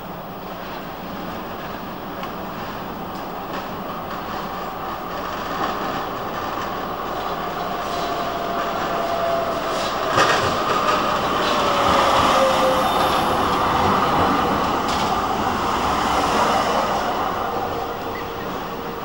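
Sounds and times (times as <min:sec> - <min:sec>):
tram passing close by: 0:00.0 - 0:19.0.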